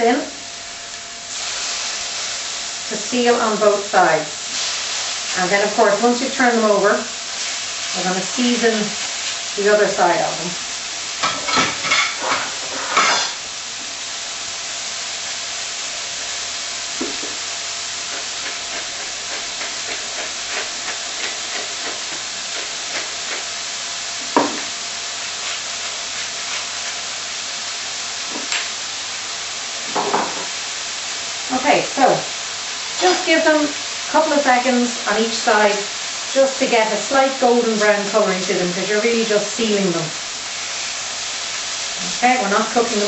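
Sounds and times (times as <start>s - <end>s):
meat sizzling in a frying pan: 0.0s - 43.0s.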